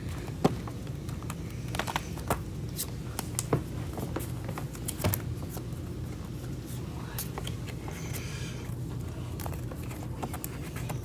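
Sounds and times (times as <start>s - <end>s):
cards tapping and rustling: 0.0s - 8.2s, 8.8s - 11.0s
steady low hum: 0.0s - 11.0s.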